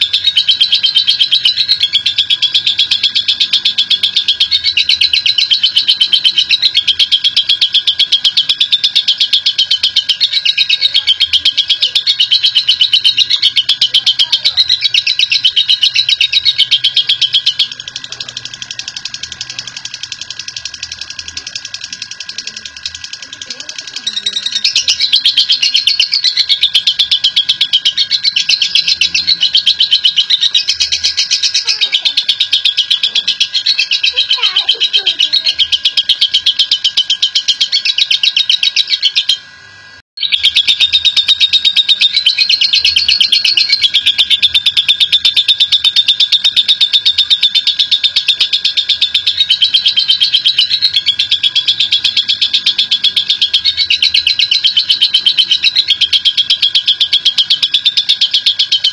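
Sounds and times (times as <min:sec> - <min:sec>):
lovebird high chattering trill: 0:00.0 - 0:58.9.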